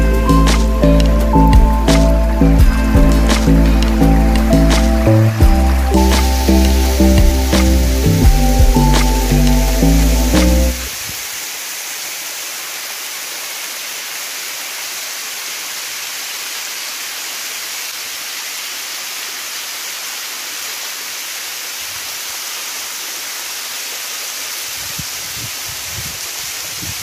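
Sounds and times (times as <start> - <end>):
waterfall splashing water: 0.0 - 27.0.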